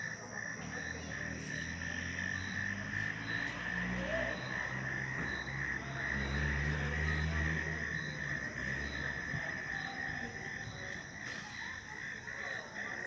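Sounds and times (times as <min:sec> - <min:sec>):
crickets and frogs chirping: 0:00.0 - 0:13.0.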